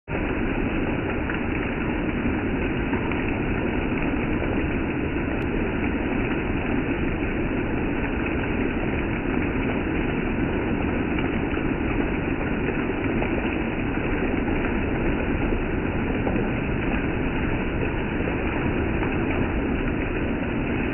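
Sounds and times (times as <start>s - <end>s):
steady rain dripping off roof: 0.1s - 20.9s.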